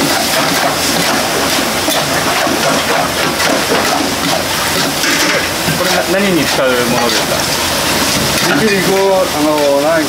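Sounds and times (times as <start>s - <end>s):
restaurant kitchen rushing noise: 0.0s - 10.0s.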